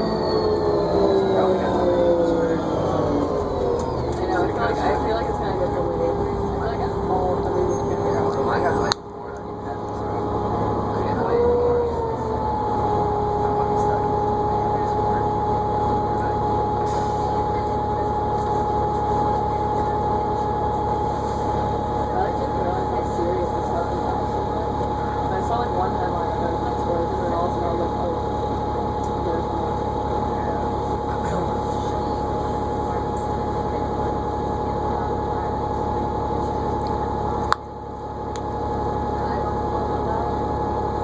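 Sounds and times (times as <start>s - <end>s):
bus engine and road rumble: 0.0s - 41.0s
high-pitched whine: 0.0s - 41.0s.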